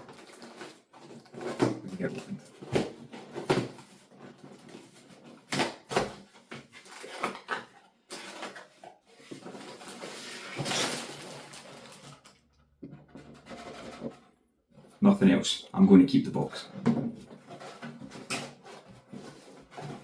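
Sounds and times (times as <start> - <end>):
cardboard rustling and scraping: 0.0 - 15.0, 16.6 - 20.0.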